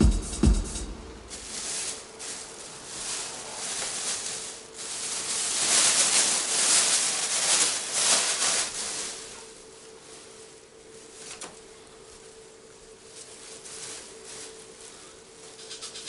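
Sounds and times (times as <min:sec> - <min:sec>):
faint steady hum: 0:00.0 - 0:16.0
rustling hiss-like noise: 0:00.0 - 0:16.0.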